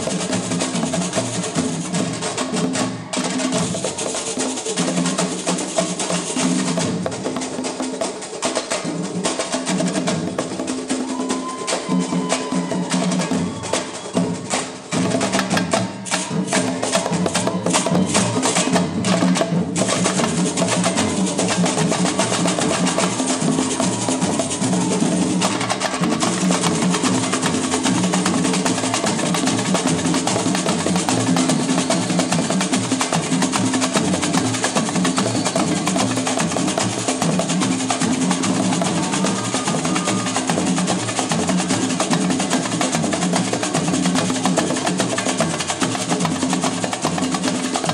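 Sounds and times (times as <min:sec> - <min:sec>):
samba drums playing: 0:00.0 - 0:47.9.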